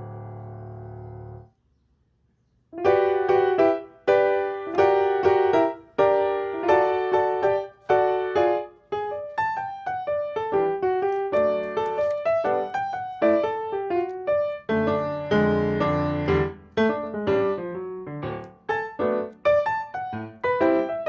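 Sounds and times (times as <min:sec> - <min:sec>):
piano music: 0:00.0 - 0:01.5, 0:02.8 - 0:21.0.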